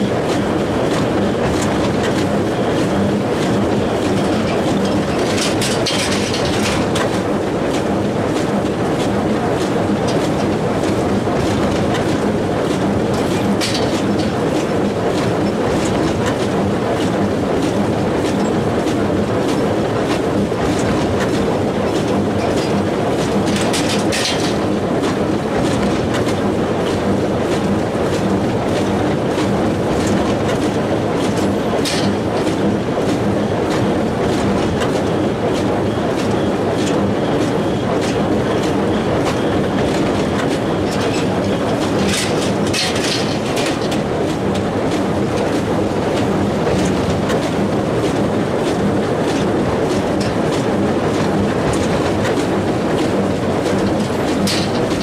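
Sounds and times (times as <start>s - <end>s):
baler clattering and rumbling: 0.0s - 55.0s.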